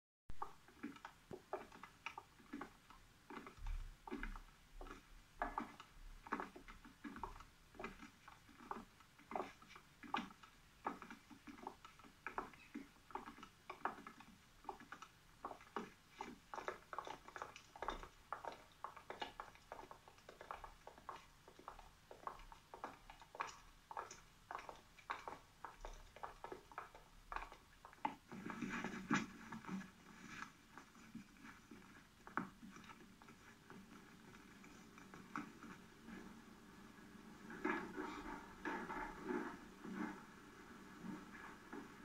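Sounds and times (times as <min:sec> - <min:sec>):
footsteps of people walking: 0:00.3 - 0:42.0.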